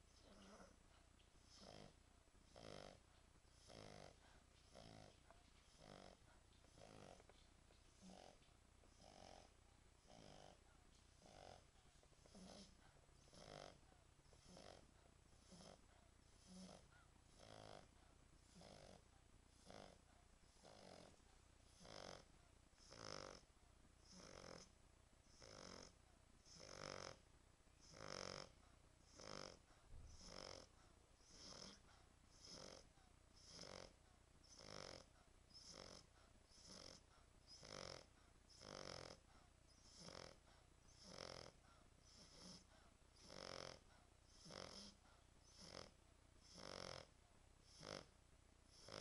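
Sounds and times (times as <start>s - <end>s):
dog snoring: 0.1s - 0.8s, 1.4s - 27.2s, 27.8s - 48.1s, 48.7s - 49.0s.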